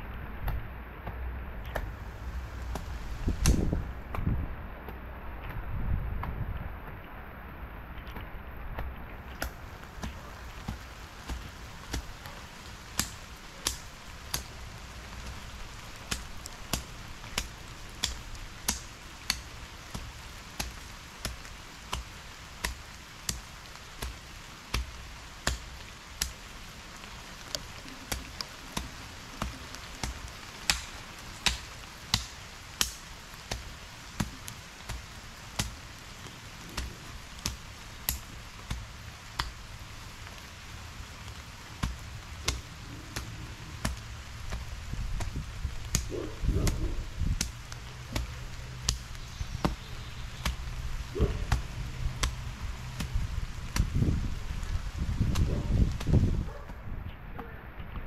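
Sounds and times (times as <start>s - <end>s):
garden hoe chopping soil: 2.7s - 5.6s, 8.8s - 26.5s, 27.5s - 35.9s, 36.7s - 39.6s, 41.7s - 56.8s.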